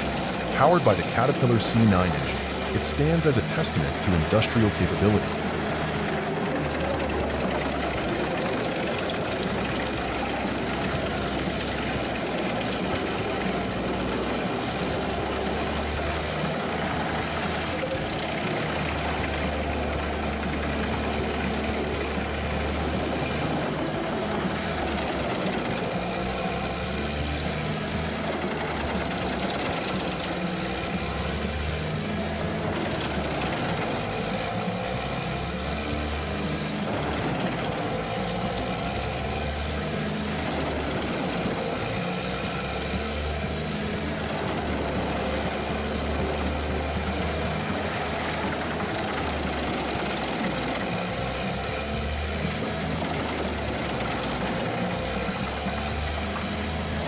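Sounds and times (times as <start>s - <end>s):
diesel engine droning: 0.0s - 57.0s
wood chipper running: 0.0s - 57.0s.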